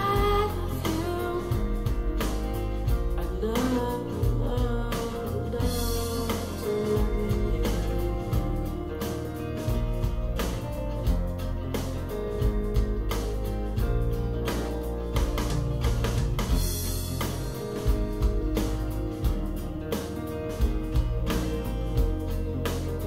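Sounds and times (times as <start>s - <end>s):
song over speakers: 0.0s - 23.0s.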